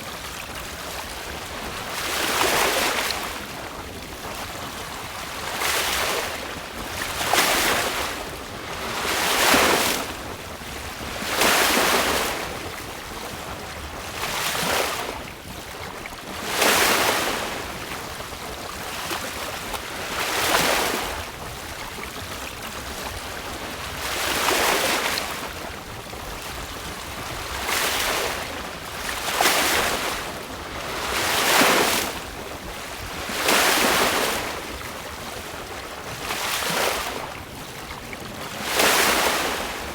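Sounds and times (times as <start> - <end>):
sea water rushing past hull: 0.0 - 39.9.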